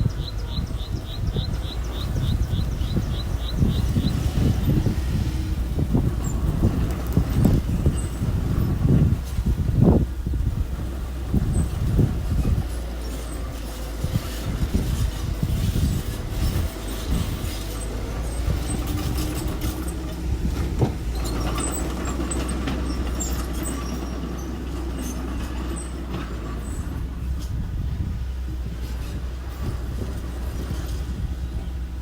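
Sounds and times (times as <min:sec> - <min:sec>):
machine engine rumbling: 0:00.0 - 0:32.0.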